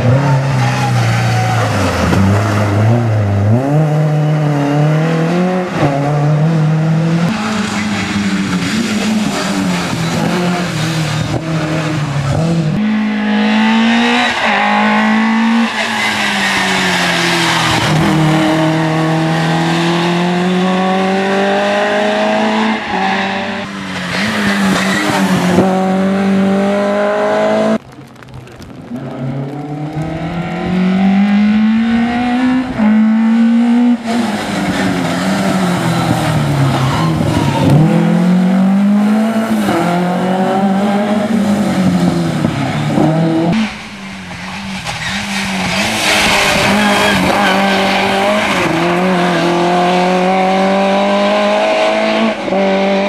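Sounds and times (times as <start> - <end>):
rally car engine revving hard: 1.6 - 15.9, 16.7 - 27.8, 29.3 - 43.9, 44.8 - 53.0.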